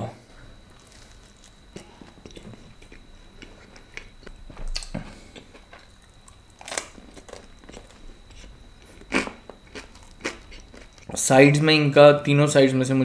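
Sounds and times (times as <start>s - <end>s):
person chewing food: 0.6s - 11.2s
crunchy smacks: 0.7s - 11.2s.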